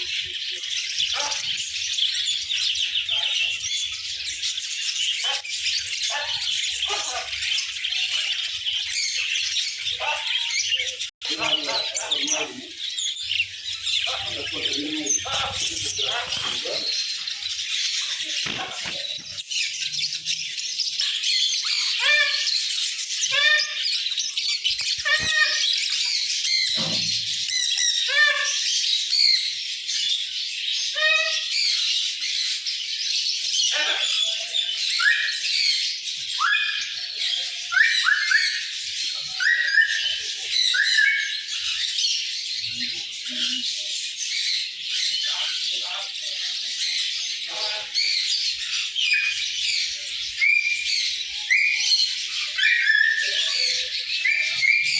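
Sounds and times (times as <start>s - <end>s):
lovebirds chattering: 0.0s - 54.9s
squawking bird calls: 0.0s - 54.9s.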